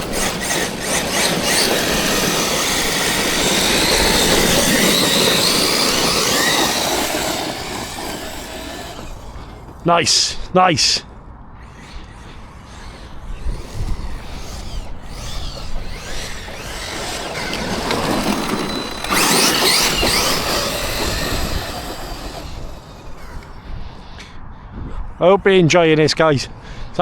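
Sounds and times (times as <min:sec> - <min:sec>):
electric motor whine: 0:00.0 - 0:09.8, 0:11.5 - 0:23.9
tyres on dirt: 0:00.0 - 0:24.2.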